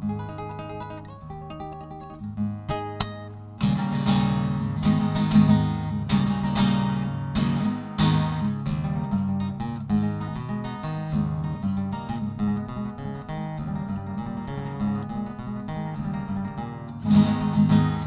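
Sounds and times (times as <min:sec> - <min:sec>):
plucked-string melody: 0:00.0 - 0:18.0.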